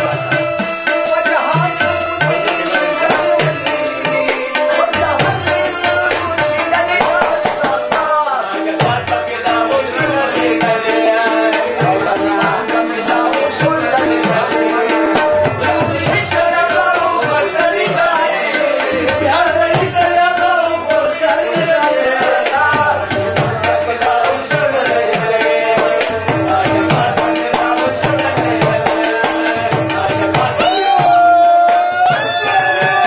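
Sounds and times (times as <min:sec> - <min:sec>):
man singing: 0:00.0 - 0:33.0
tabla drums: 0:00.0 - 0:33.0.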